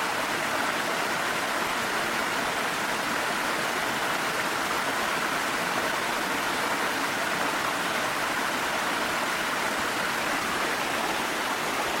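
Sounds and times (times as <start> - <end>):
rush of falling water: 0.0 - 12.0.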